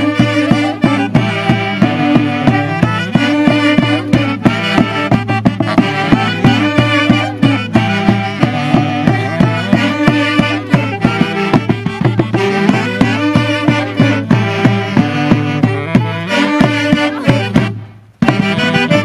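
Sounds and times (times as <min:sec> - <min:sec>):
saxophones playing melody: 0:00.0 - 0:19.0
steady drum beat: 0:00.0 - 0:19.0.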